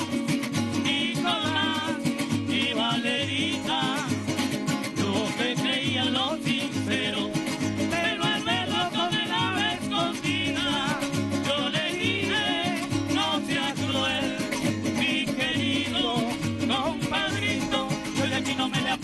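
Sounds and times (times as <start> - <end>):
strummed cuatros and guitars: 0.0 - 19.0
voices singing: 0.0 - 19.0.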